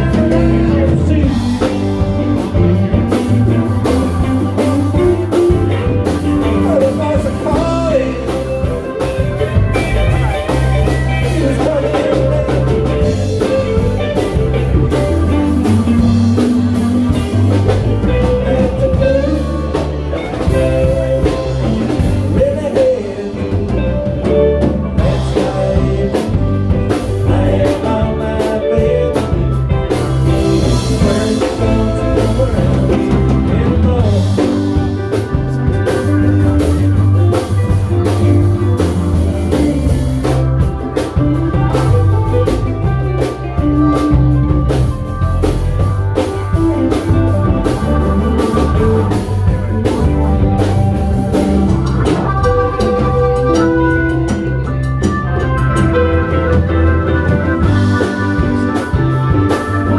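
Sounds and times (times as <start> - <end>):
drum kit beat: 0.0 - 59.9
guitar: 0.0 - 59.9
live band playing blues: 0.0 - 59.9.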